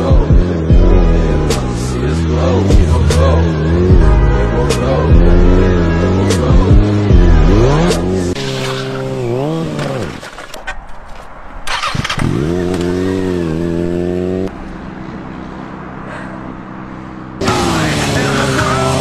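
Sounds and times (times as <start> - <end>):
motorcycle engine revving: 0.0 - 10.4, 11.7 - 19.0.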